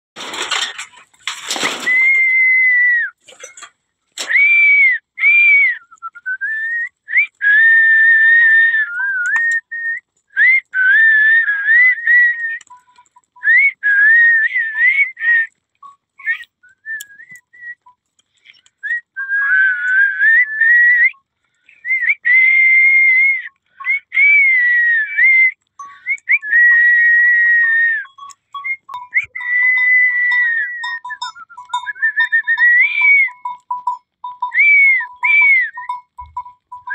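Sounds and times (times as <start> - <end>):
person whistling: 1.8 - 3.2, 4.2 - 33.6, 34.4 - 36.9.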